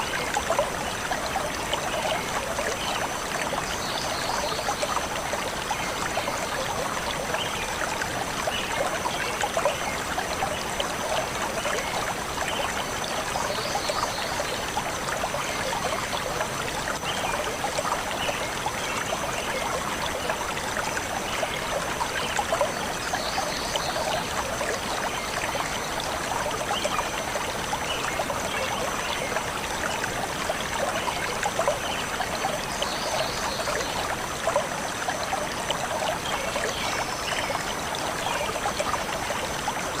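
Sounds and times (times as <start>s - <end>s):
stream flowing over stones: 0.0s - 40.0s.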